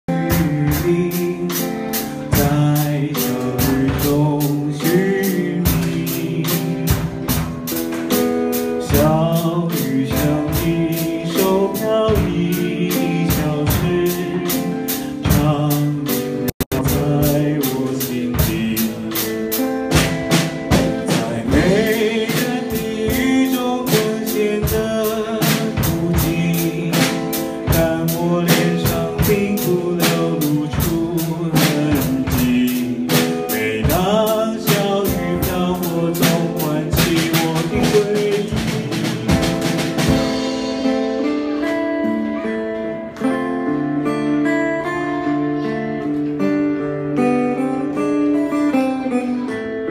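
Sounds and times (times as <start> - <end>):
drum kit beat: 0.0 - 44.4
man singing: 0.0 - 46.4
acoustic guitar chords: 0.0 - 49.9.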